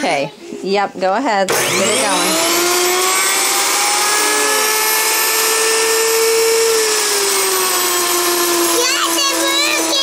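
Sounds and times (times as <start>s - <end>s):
grain mill motor whine: 1.5s - 10.0s
mill grinding grain: 1.5s - 10.0s.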